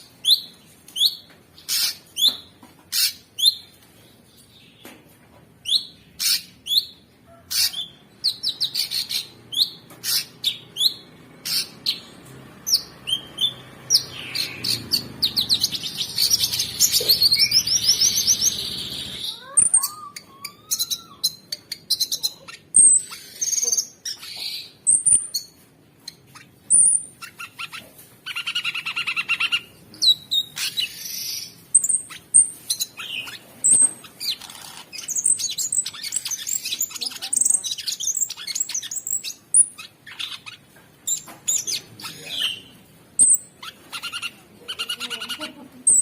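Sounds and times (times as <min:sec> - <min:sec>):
songbird singing: 0:00.0 - 0:46.0.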